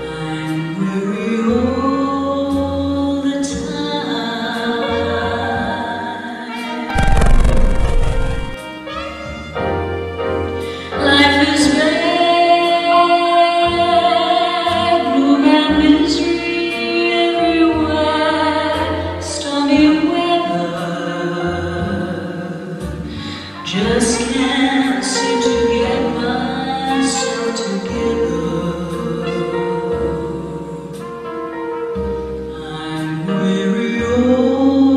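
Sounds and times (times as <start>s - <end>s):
woman singing a slow ballad: 0.0s - 6.8s, 10.8s - 31.4s, 32.3s - 34.9s.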